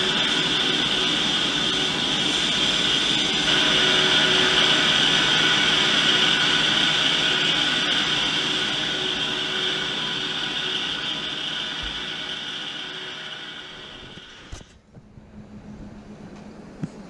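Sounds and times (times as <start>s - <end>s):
lathe cutting metal hissing: 0.0s - 14.7s.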